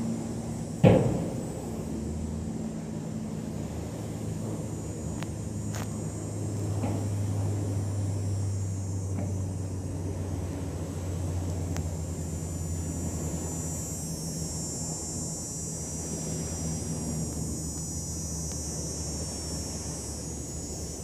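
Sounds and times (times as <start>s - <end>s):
distant motor drone: 0.0s - 21.0s
faint high-pitched whine: 0.0s - 21.0s.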